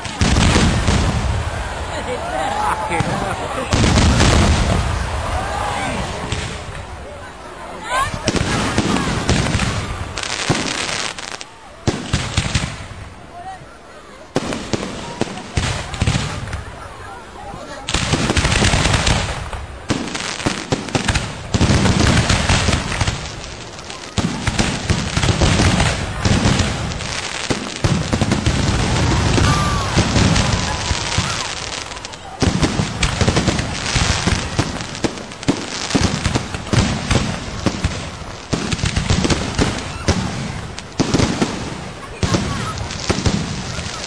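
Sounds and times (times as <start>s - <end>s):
fireworks cracks and booms: 0.0s - 7.2s, 7.9s - 13.2s, 14.3s - 16.9s, 17.6s - 44.0s.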